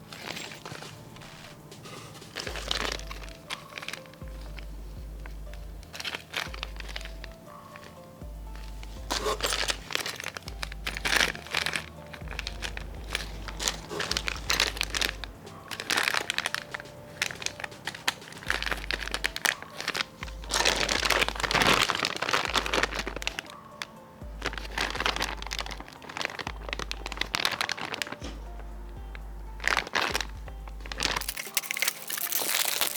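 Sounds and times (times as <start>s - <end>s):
background music with low pulse: 0.0s - 32.9s
plastic packaging crinkling: 0.0s - 32.9s.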